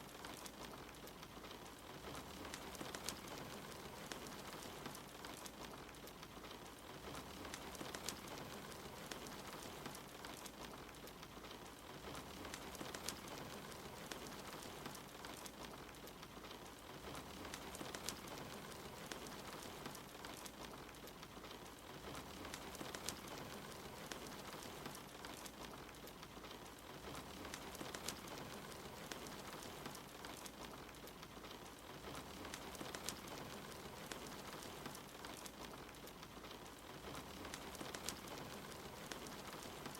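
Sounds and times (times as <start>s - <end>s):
fire pops: 0.0s - 39.9s
log fire crackling: 0.0s - 39.9s
rain falling: 0.0s - 39.9s.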